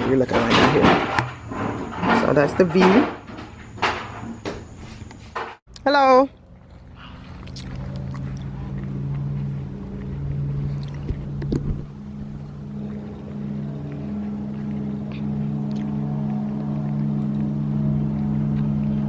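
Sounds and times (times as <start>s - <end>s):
boat engine humming: 1.2s - 19.0s.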